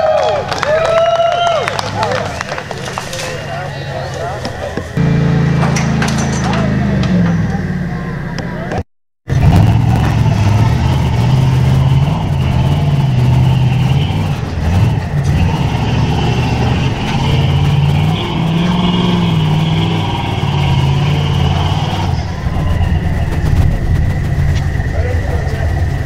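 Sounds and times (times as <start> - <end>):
truck engine revving: 1.6 - 26.0.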